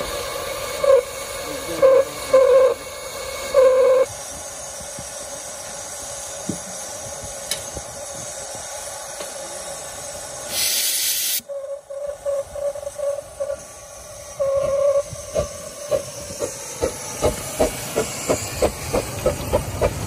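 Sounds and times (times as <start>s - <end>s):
sharp blast of steam: 0.0s - 19.8s
steam locomotive hissing: 0.0s - 20.0s.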